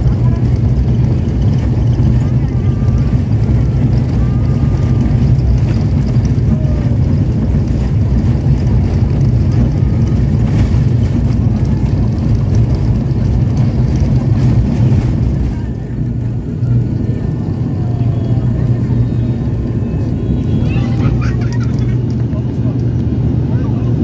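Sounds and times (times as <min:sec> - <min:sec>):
airliner engines droning in cabin: 0:00.0 - 0:24.0.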